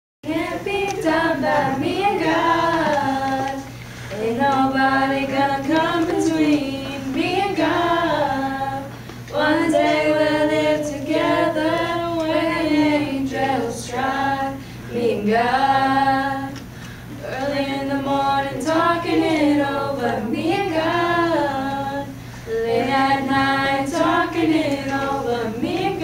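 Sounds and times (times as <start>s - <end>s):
children's choir singing: 0.2s - 26.0s.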